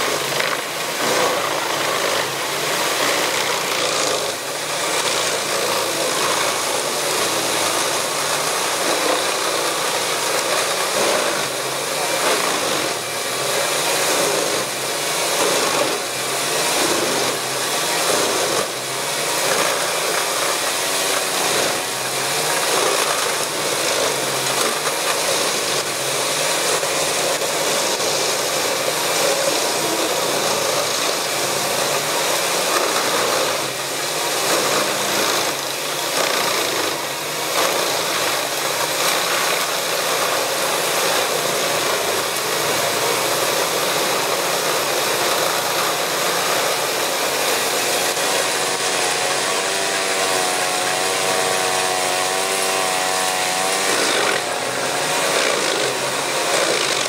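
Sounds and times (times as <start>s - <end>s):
wood chipper grinding branches: 0.0s - 57.0s.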